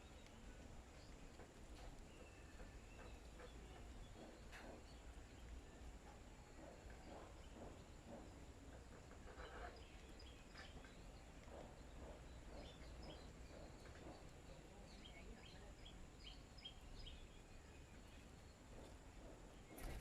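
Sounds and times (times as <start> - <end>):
low steady background noise: 0.0 - 20.0
small birds chirping: 0.0 - 20.0.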